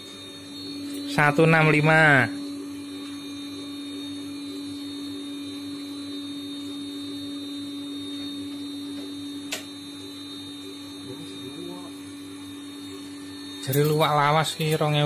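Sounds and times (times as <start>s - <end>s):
coffee roaster motor humming: 0.0s - 15.0s.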